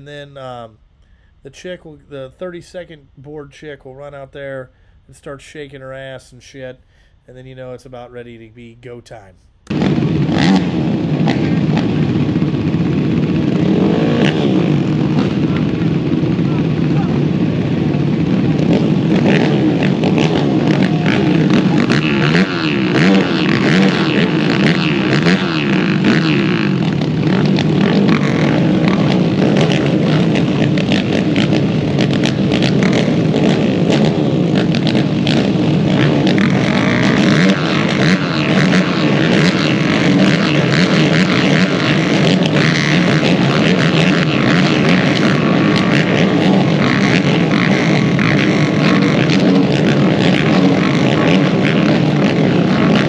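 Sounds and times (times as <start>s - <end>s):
many atv engines revving: 0.0s - 0.8s, 9.6s - 53.0s.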